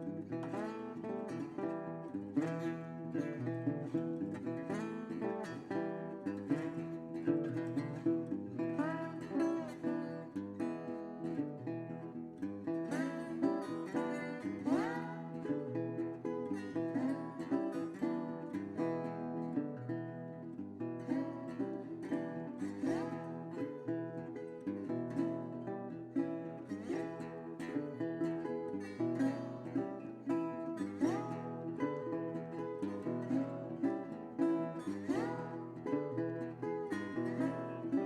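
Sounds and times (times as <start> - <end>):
plucked guitar music: 0.0 - 38.0.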